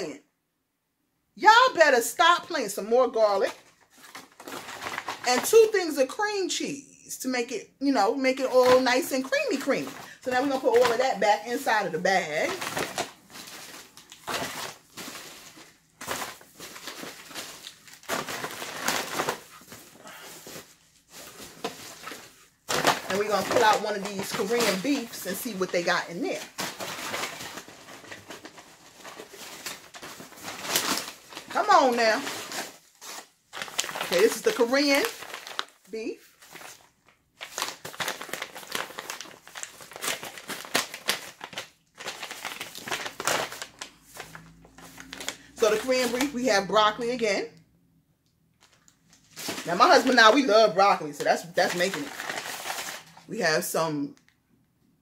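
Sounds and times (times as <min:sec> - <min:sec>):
paper bag crinkling: 0:03.3 - 0:05.7, 0:08.5 - 0:46.4, 0:48.6 - 0:53.3.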